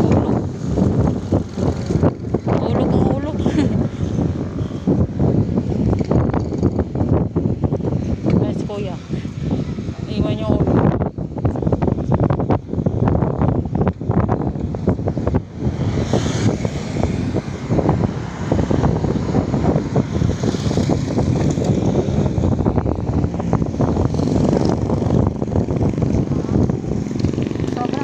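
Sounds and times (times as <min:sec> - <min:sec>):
cars and motorcycles passing: 0:00.0 - 0:28.0
wind buffeting microphone: 0:00.0 - 0:28.0.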